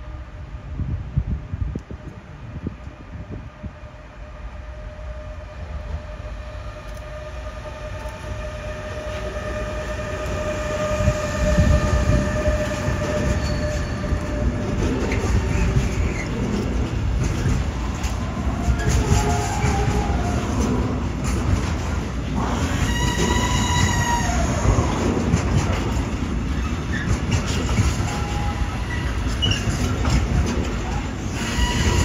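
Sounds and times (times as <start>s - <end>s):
wagons rumbling on rails: 0.0s - 32.0s
locomotive whine: 1.8s - 32.0s.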